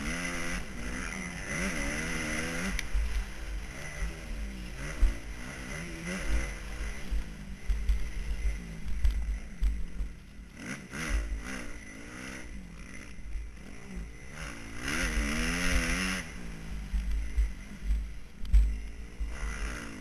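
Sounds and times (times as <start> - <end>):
motocross bike engine revving: 0.0 - 20.0.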